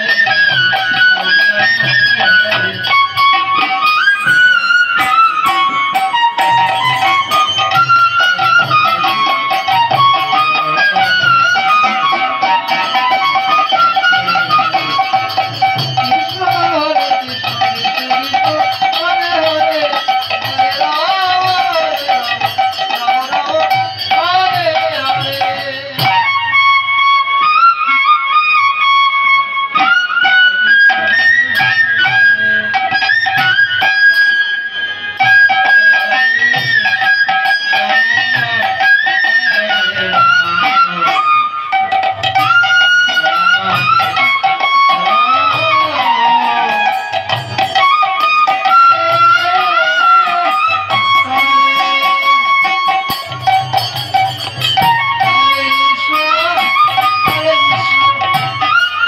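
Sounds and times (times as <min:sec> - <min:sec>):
wavering solo melody instrument: 0:00.0 - 0:59.0.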